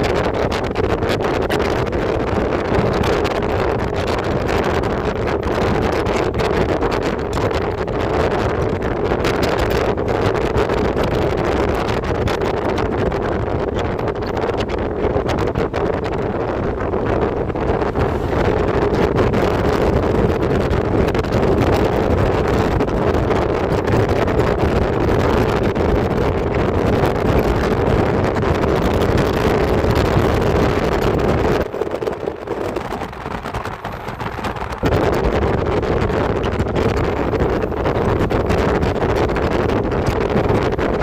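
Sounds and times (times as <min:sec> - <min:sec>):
vehicle road noise: 0:00.0 - 0:41.0
wind rushing over microphone: 0:00.0 - 0:41.0.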